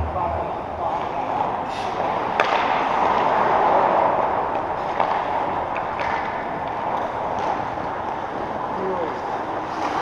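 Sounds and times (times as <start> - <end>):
din of play and crowd: 0.0 - 10.0.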